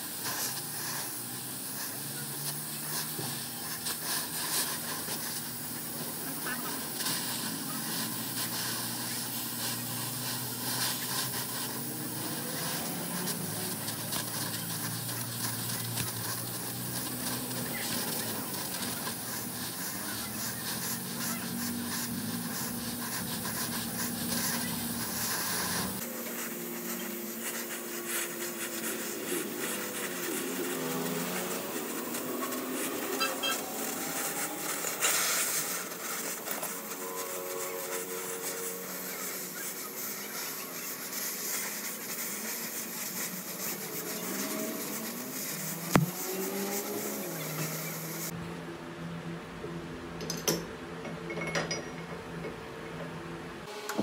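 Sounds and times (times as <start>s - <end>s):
gas torch flame hissing: 0.0s - 48.4s.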